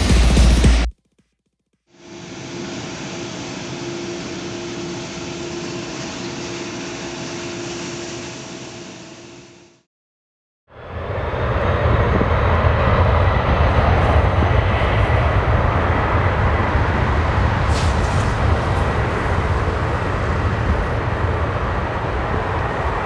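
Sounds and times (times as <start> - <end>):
jet engines roaring: 2.0 - 9.1, 10.7 - 23.0.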